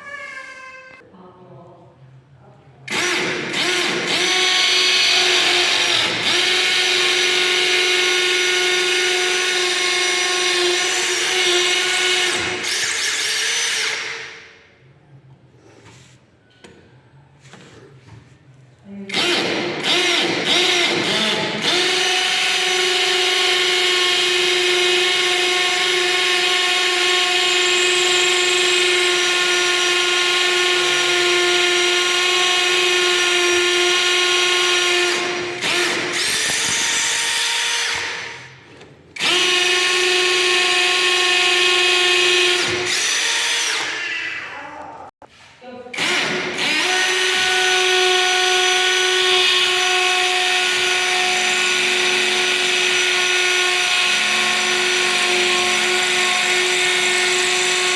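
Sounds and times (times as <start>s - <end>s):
cordless impact drill whining: 2.9s - 14.6s, 19.1s - 38.6s, 39.2s - 44.2s, 46.0s - 57.9s.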